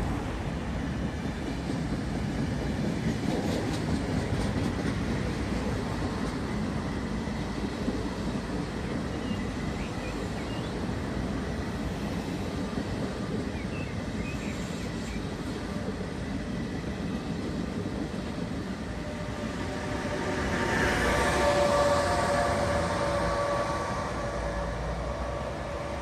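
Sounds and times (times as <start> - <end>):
electric locomotive whine: 0.0 - 26.0
train wheels rumbling on track: 0.0 - 26.0.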